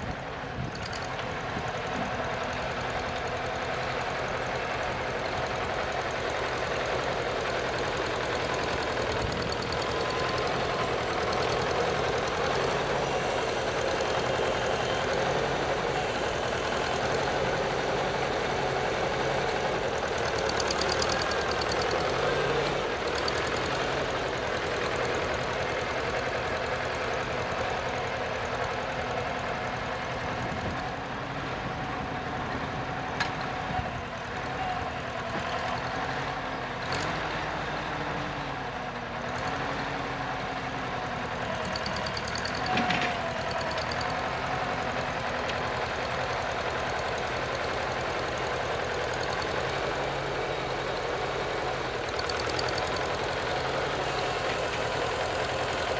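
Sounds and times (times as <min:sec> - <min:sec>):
tractor engine running under load: 0:00.0 - 0:55.9.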